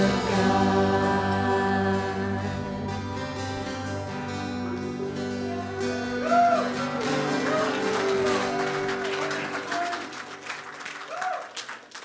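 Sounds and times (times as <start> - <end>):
live band playing sustained chords: 0.0 - 10.9
plucked guitar: 0.0 - 10.9.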